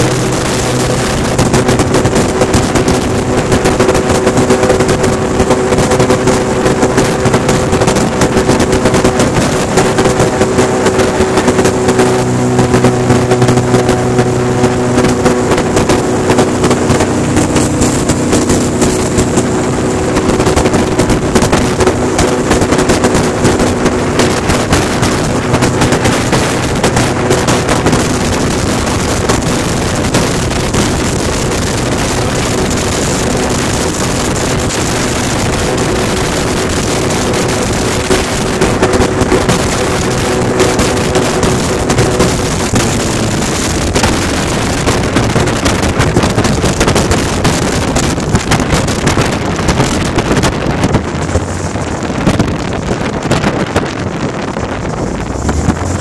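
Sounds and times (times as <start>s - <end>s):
airboat engine and propeller drone: 0.0s - 56.0s.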